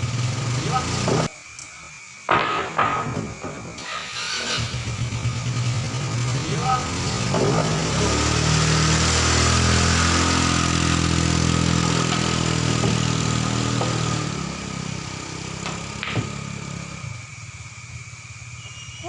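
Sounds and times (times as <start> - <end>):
motor engine running: 0.0 - 1.3, 4.0 - 18.6.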